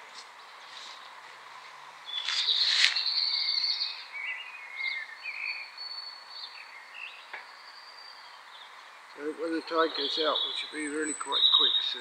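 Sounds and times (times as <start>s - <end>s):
outdoor background hiss: 0.0s - 12.0s
small bird singing: 2.0s - 12.0s.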